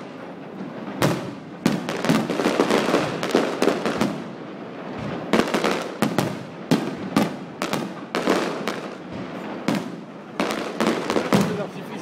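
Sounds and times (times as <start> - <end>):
fireworks crackling: 0.0 - 12.0
fireworks exploding bangs: 0.0 - 12.0.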